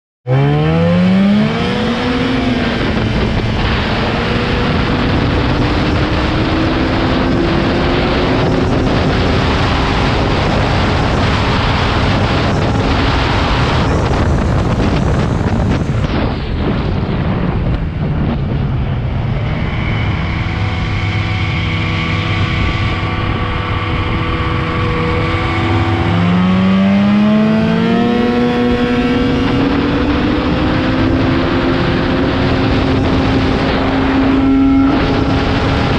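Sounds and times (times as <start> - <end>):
snowmobile engine revving: 0.3 - 16.3, 18.8 - 35.9
wind rush on microphone: 0.6 - 35.9.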